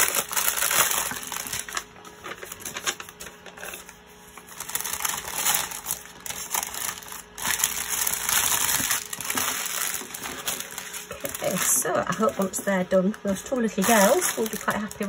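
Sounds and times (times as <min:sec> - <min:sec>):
plastic bags crinkling: 0:00.0 - 0:12.7, 0:13.4 - 0:15.0.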